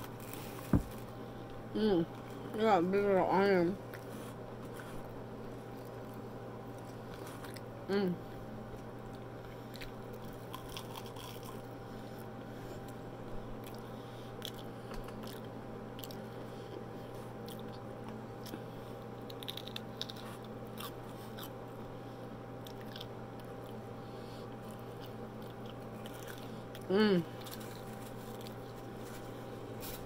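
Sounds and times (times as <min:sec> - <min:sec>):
crisp chewing crunches: 0:00.0 - 0:02.5, 0:03.9 - 0:07.7, 0:08.7 - 0:13.0, 0:13.6 - 0:21.9, 0:22.6 - 0:23.9, 0:24.5 - 0:30.0
steady low hum: 0:00.0 - 0:30.0.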